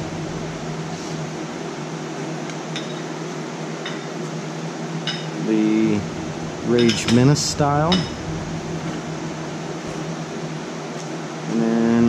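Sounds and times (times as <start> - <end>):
fan whirring: 0.0 - 12.0.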